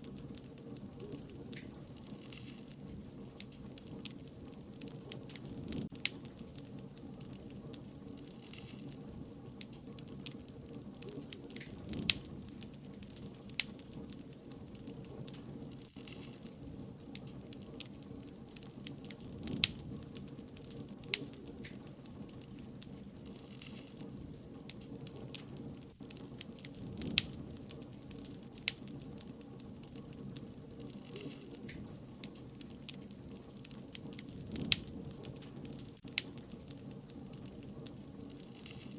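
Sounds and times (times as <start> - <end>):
burning wood popping and snapping: 0.0 - 38.9
low rush of flames: 0.0 - 38.9.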